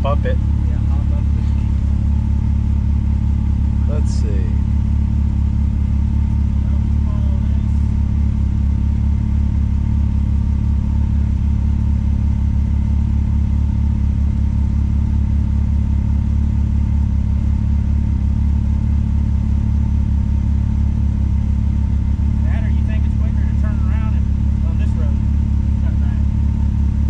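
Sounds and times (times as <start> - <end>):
off-road vehicle engine rumble: 0.0 - 27.0.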